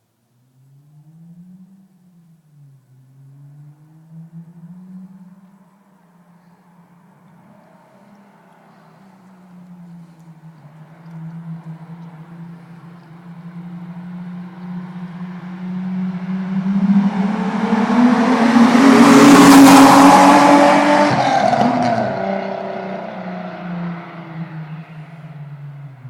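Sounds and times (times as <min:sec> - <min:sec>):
car driving past: 0:00.6 - 0:26.0.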